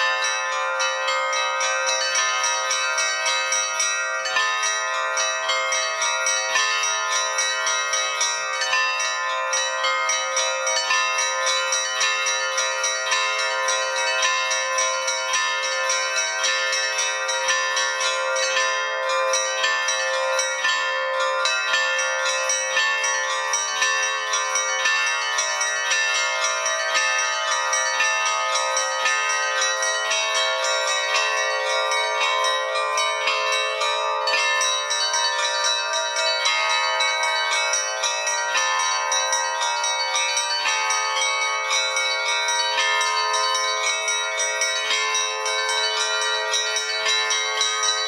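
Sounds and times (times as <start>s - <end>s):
church bells ringing rapidly: 0.0s - 48.0s.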